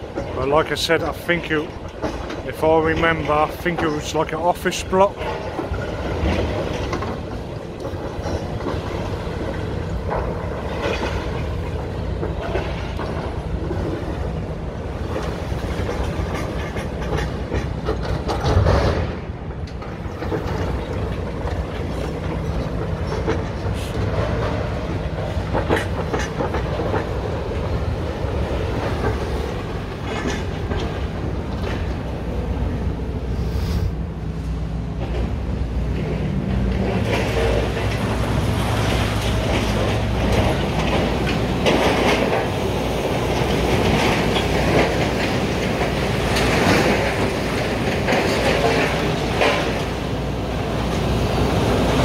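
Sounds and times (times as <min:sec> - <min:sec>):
diesel engines running: 0:00.0 - 0:52.0.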